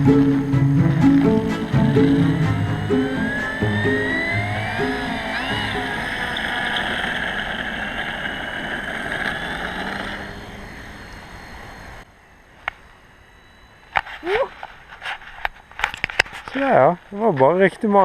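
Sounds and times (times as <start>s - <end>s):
model plane motor whine: 0.0s - 16.5s.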